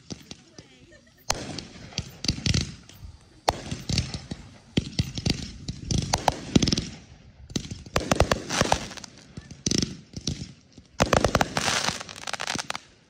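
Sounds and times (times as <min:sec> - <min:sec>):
fireworks bangs and pops: 0:00.0 - 0:13.0
fireworks crackling: 0:00.0 - 0:13.0.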